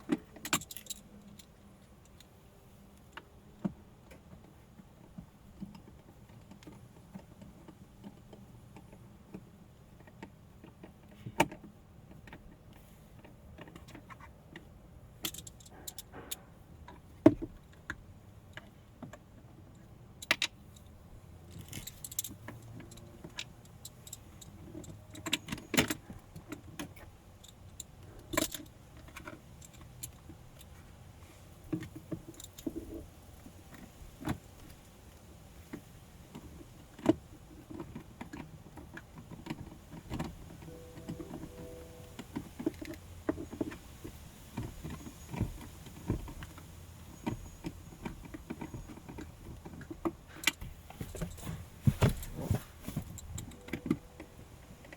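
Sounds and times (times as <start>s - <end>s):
plastic parts clicking and knocking: 0.0s - 30.9s, 31.6s - 54.9s.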